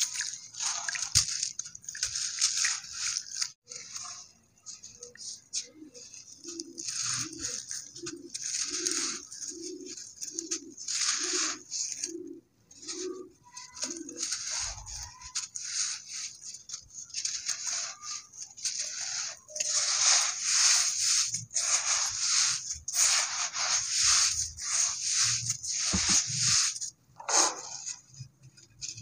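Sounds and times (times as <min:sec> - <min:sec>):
dry cement crumbling: 0:00.0 - 0:29.0.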